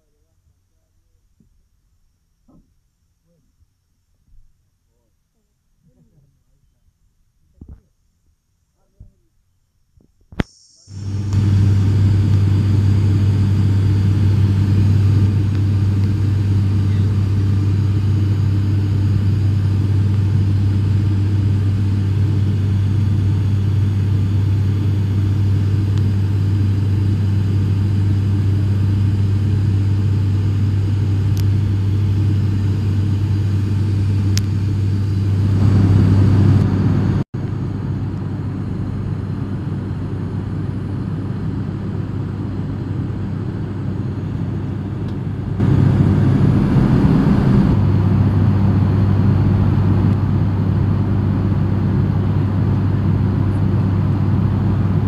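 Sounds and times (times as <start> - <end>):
propeller and engine drone: 10.5 - 55.0.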